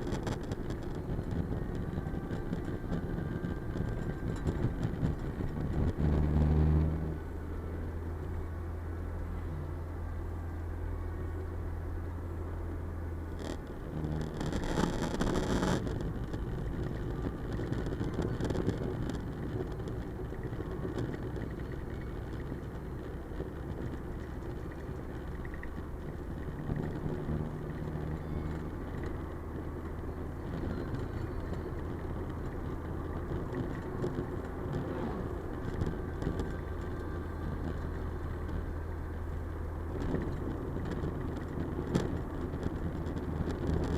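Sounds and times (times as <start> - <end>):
car engine and tyre drone: 0.0 - 43.9
rushing road noise: 0.0 - 43.9.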